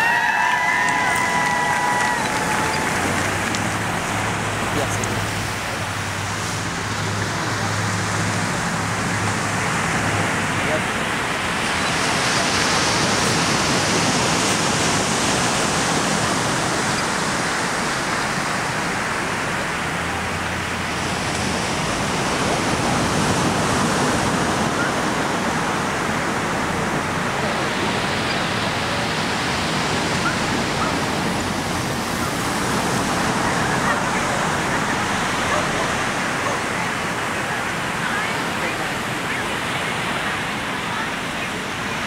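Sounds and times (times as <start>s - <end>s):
surf washing onto beach: 0.0s - 42.0s.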